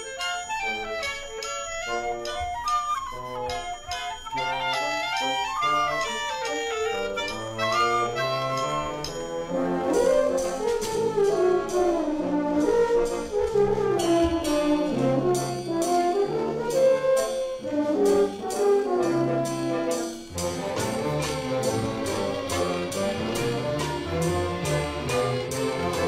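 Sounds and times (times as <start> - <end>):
brass melody: 0.0 - 26.0
orchestra playing a waltz: 0.0 - 26.0.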